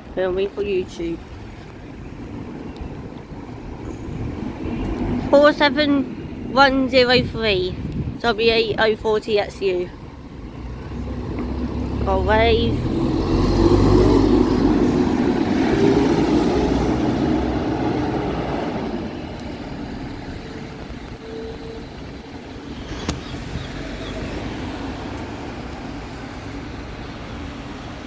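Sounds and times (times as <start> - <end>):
bus engine passing: 0.0 - 28.0.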